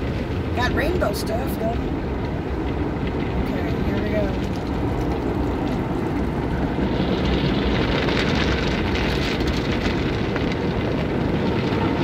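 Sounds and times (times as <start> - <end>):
water spraying on car: 0.0 - 12.0.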